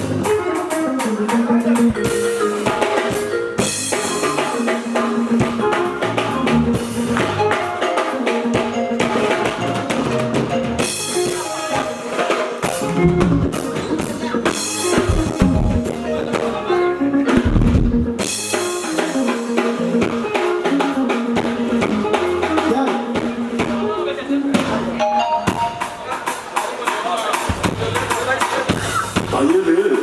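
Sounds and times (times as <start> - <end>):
live band music: 0.0 - 30.0.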